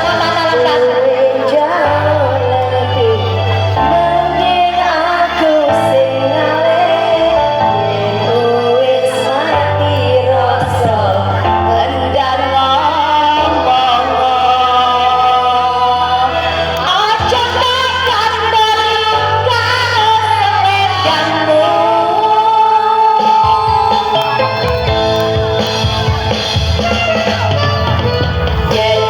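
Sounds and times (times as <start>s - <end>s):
person singing: 0.0s - 29.0s
steady bass line: 0.0s - 29.0s.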